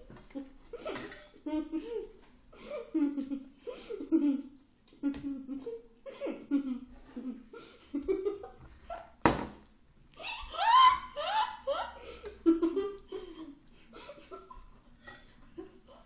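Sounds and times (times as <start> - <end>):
girls giggling: 0.0 - 9.2, 10.2 - 16.0.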